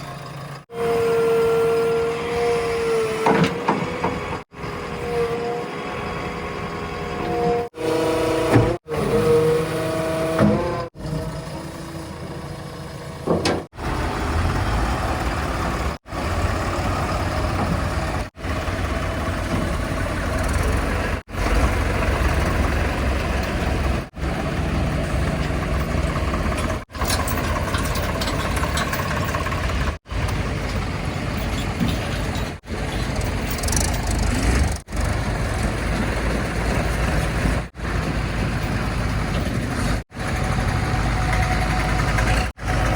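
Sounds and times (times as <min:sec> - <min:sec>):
diesel machinery rumbling: 0:00.0 - 0:42.9.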